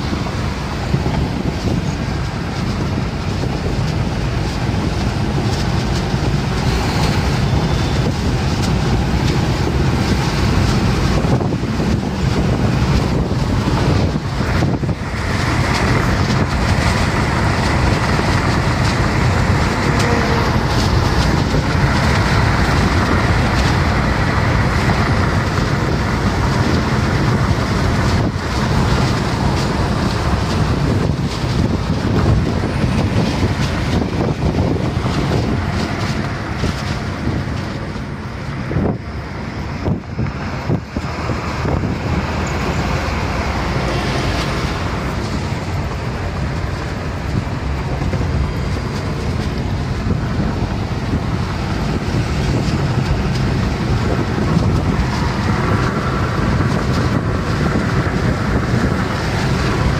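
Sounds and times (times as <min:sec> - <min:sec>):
tyres rumbling on asphalt: 0:00.0 - 0:59.9
wind rushing past car: 0:00.0 - 0:59.9.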